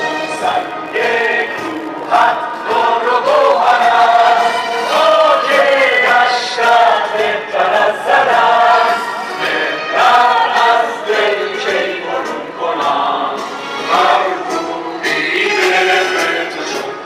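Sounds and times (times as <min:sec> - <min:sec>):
people singing together: 0:00.0 - 0:17.0.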